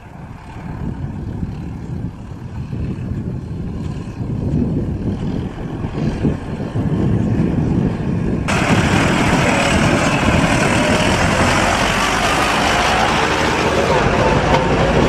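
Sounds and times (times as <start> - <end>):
distant tractors running: 0.0 - 15.0
tractor and trailer driving past: 0.0 - 15.0.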